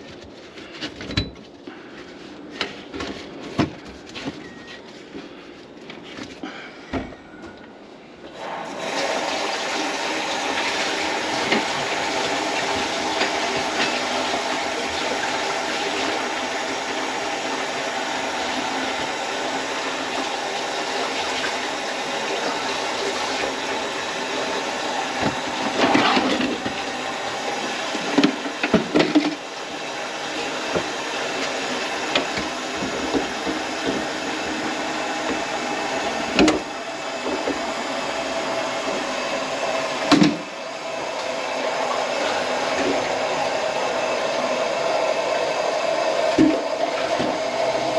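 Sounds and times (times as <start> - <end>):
water running into sink: 8.3 - 47.9.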